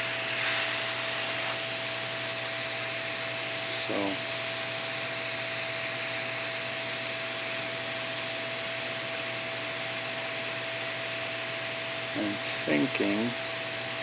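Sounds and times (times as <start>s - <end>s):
hot-air heater blowing: 0.0s - 14.0s.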